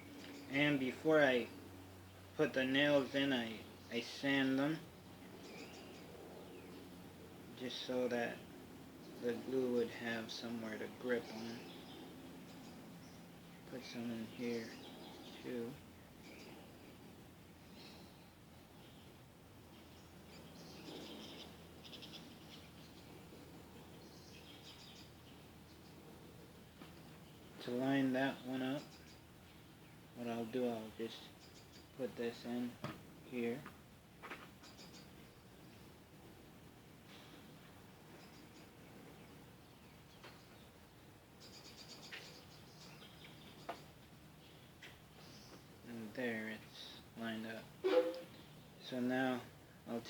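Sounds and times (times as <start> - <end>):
faint bird chirps and trills: 0.0 - 33.5, 34.6 - 36.0, 37.0 - 50.0
low room hum: 0.0 - 50.0.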